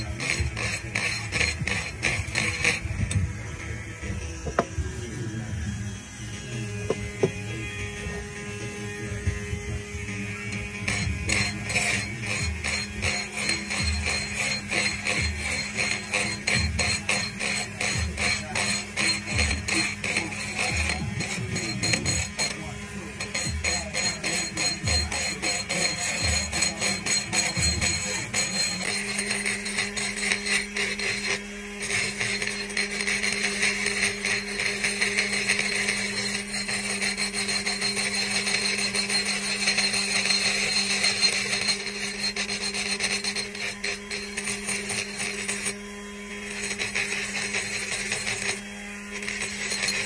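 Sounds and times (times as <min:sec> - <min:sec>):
rotary tool grinding metal: 0:00.0 - 0:50.0.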